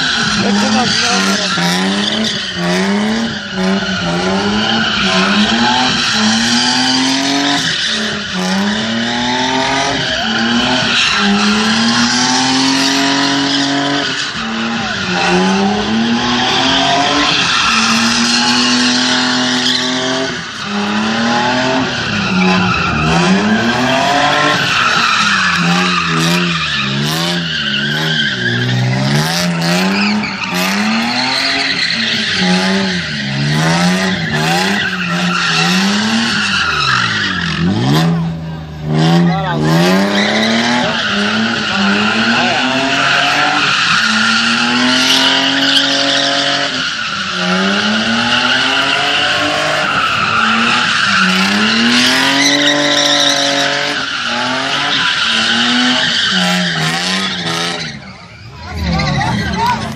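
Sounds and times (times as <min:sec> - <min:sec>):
tyres squealing: 0:00.0 - 0:38.3, 0:38.9 - 0:59.9
car engine revving: 0:00.0 - 0:59.9.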